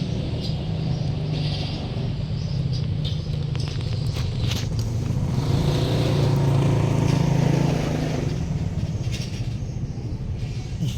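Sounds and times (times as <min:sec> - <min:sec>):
vehicle engine rumble passing: 0:00.0 - 0:10.9.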